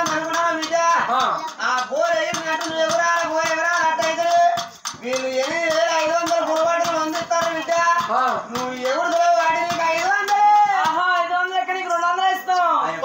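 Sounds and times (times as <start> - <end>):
clicking percussion beat: 0.0 - 11.6
person singing: 0.0 - 12.0.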